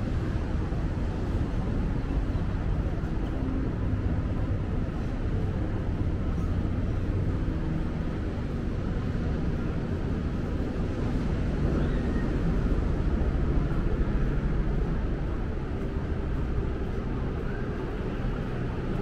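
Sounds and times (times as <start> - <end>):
faint indistinct voices: 0.0 - 19.0
low wash of noise: 0.0 - 19.0.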